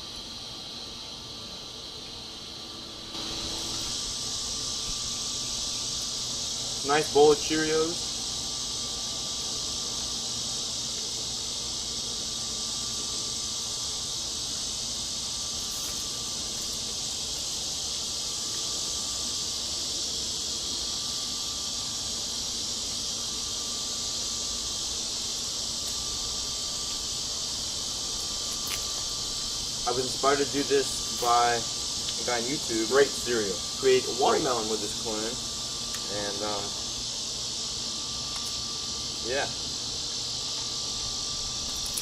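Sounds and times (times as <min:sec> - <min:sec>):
insect chorus buzzing: 0:00.0 - 0:42.0.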